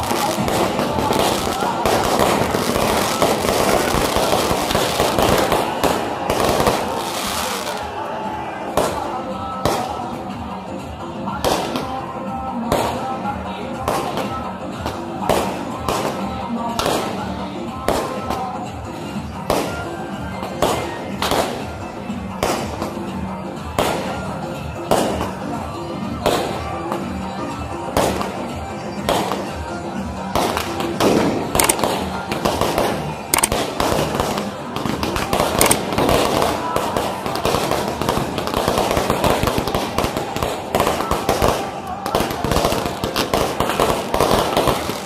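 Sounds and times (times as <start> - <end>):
fireworks crackling and banging: 0.0 - 45.0
music: 0.0 - 45.0.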